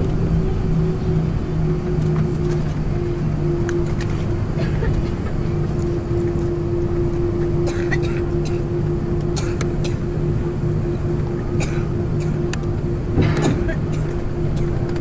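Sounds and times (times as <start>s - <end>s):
aircraft engine hum in cabin: 0.0s - 15.0s.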